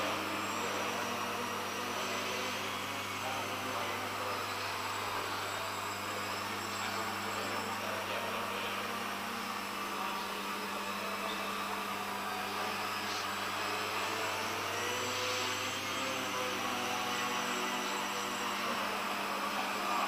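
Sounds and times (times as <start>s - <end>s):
drone motors and propellers whirring: 0.0s - 20.0s.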